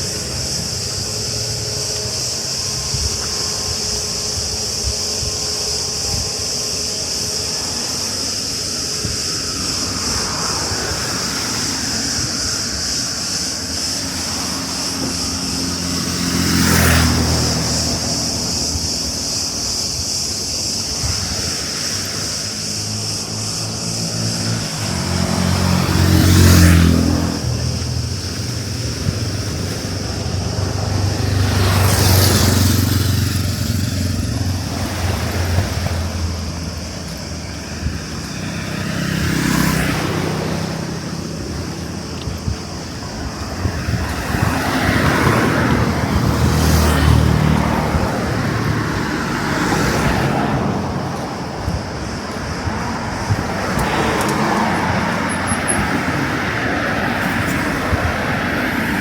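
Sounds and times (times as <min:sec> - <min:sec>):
cicadas buzzing: 0:00.0 - 0:59.0
vehicles driving past: 0:00.0 - 0:59.0.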